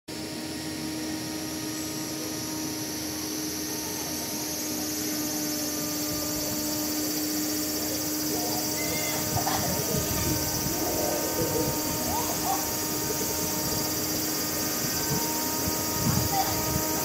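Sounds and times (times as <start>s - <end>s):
high-pitched insect drone: 0.1s - 17.0s
low hum: 0.2s - 17.0s.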